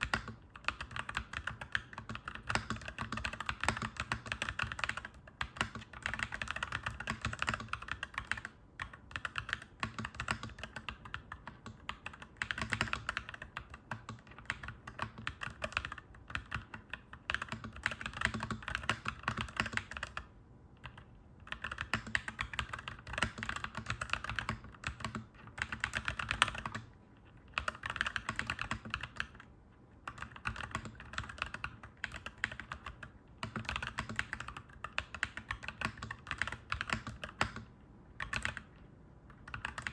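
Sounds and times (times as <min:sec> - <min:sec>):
mechanical keyboard typing: 0:00.0 - 0:26.9, 0:27.5 - 0:38.7, 0:39.3 - 0:39.9.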